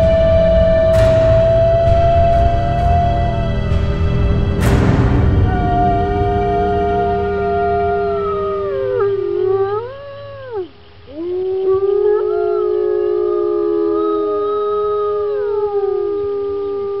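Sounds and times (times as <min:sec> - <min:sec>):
wolves howling in chorus: 0:00.0 - 0:17.0.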